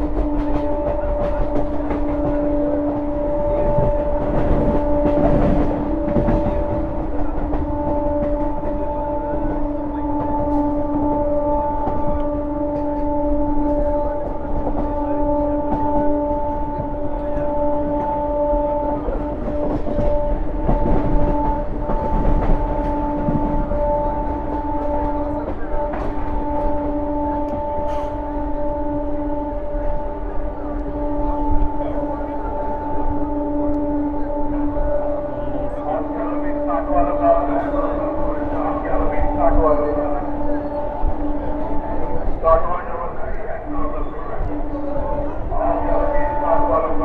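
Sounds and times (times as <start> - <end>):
train horn long steady note: 0.0 - 47.0.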